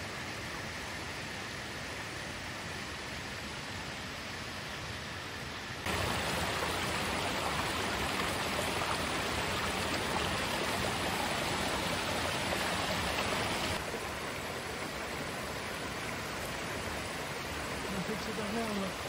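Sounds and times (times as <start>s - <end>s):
waterfall roaring over boulders: 0.0s - 19.0s.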